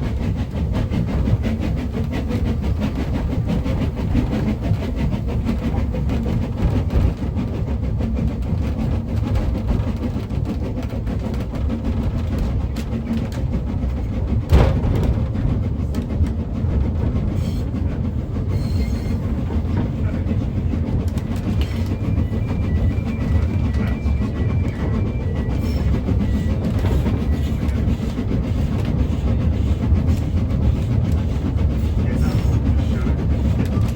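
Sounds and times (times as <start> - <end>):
train carriage rumbling: 0.0 - 33.9.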